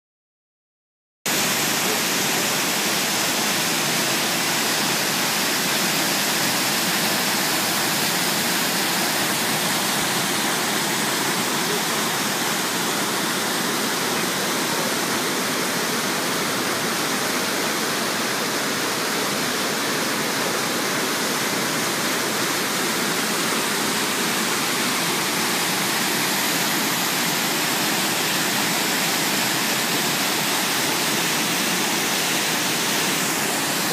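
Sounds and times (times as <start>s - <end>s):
waterfall rushing: 1.3s - 33.9s.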